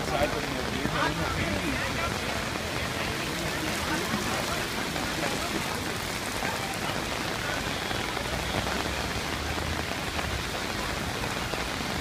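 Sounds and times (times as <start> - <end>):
heavy rain on street and umbrellas: 0.0 - 12.0.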